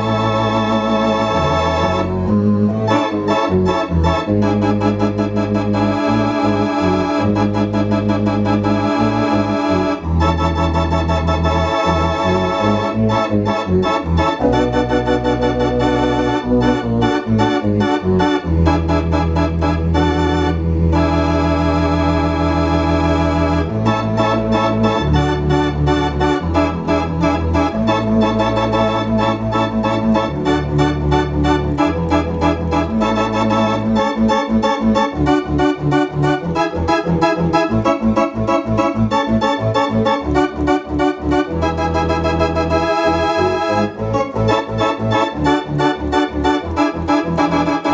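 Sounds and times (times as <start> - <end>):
electronic organ playing chords: 0.0 - 47.9.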